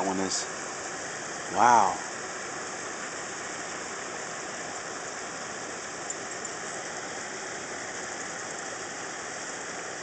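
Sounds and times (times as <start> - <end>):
running water: 0.0 - 10.0.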